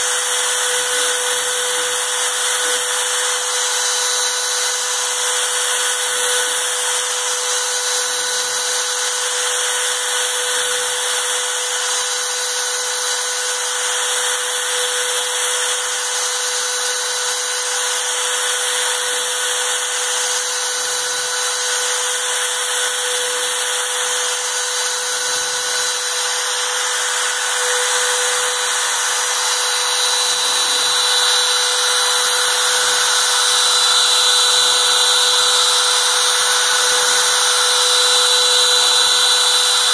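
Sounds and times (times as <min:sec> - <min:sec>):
router spindle cutting board: 0:00.0 - 0:39.9.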